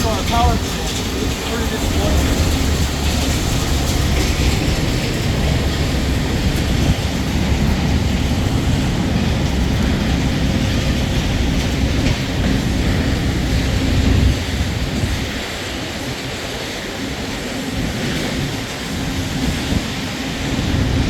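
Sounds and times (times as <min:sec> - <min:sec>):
sawmill machinery rumbling: 0:00.0 - 0:21.0.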